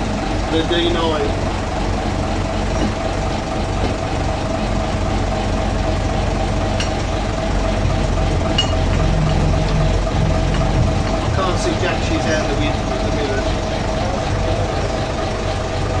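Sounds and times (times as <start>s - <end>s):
bus diesel engine running: 0.0s - 16.0s
steady whine: 0.0s - 16.0s.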